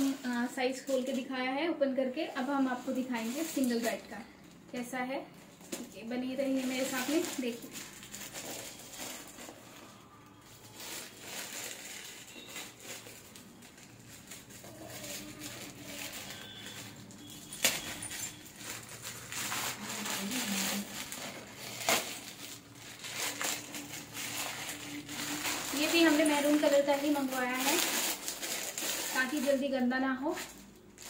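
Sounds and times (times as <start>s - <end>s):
plastic bag rustling and crinkling: 0.0s - 31.0s.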